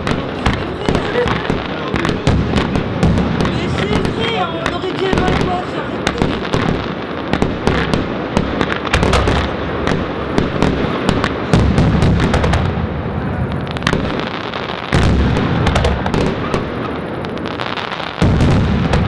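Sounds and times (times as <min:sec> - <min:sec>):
firework shells cracking: 0:00.0 - 0:12.8, 0:14.9 - 0:19.0
firework booms: 0:00.0 - 0:19.0.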